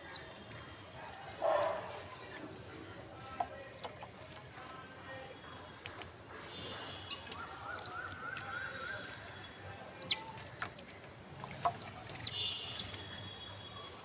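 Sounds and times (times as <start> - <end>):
sparrows chirping: 0.0 - 5.7, 6.3 - 14.0.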